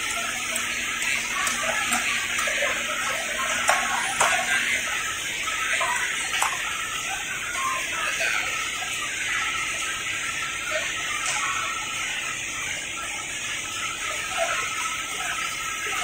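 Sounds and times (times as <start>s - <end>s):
steady hissing background noise: 0.0s - 16.0s.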